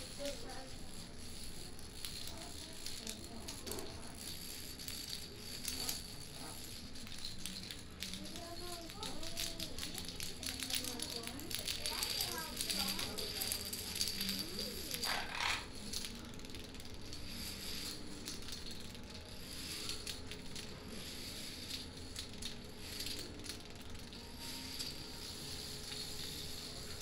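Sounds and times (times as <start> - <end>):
dominoes clattering: 0.0 - 27.0.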